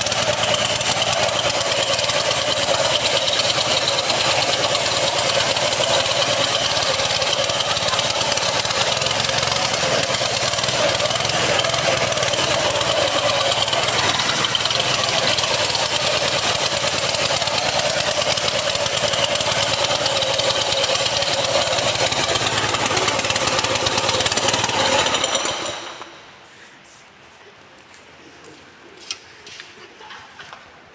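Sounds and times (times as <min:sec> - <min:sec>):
power trowel engine running: 0:00.0 - 0:26.4.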